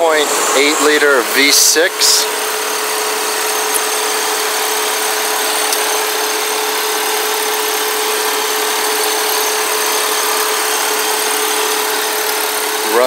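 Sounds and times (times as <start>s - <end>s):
car engine idling: 0.0s - 13.0s
steady whining tone: 0.0s - 13.0s.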